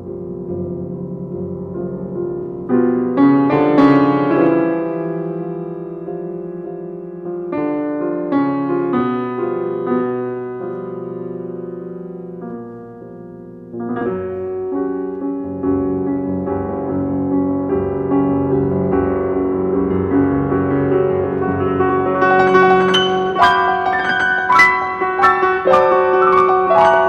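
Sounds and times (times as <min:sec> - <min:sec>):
slow piano chords: 0:00.0 - 0:27.0.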